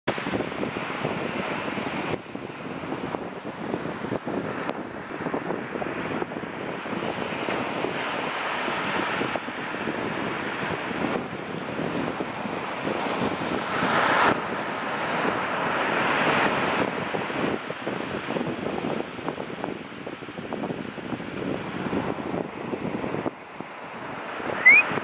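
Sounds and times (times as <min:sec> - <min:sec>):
surf washing on beach: 0:00.1 - 0:25.0
wind on microphone: 0:00.1 - 0:25.0.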